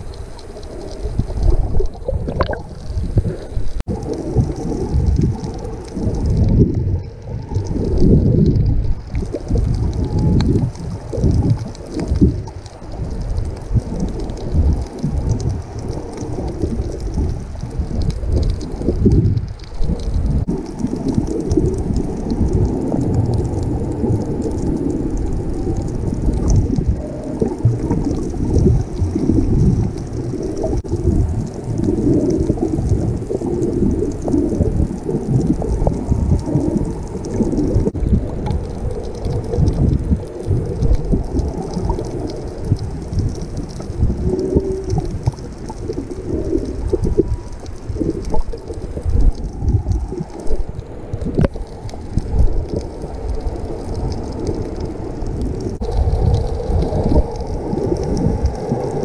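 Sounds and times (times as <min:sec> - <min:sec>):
muffled underwater water churn: 0:00.0 - 0:59.0.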